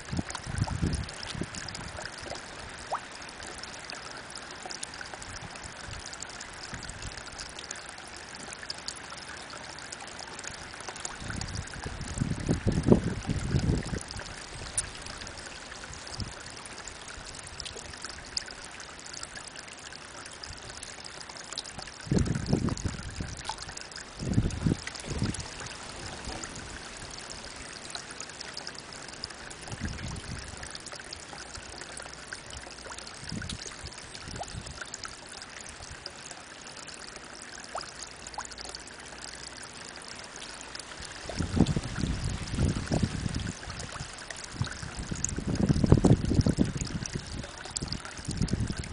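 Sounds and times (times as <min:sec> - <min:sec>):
water trickling into a pond: 0:00.0 - 0:48.9.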